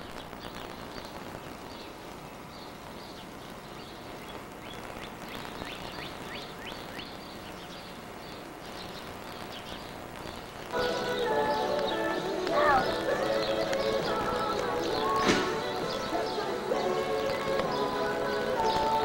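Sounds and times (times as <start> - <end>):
birds chirping: 0.0 - 19.0
tape hiss: 0.0 - 19.0.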